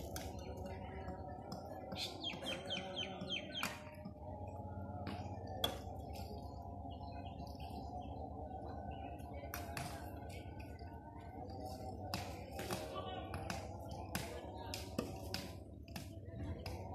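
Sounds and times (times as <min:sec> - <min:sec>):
low background noise: 0:00.0 - 0:16.9.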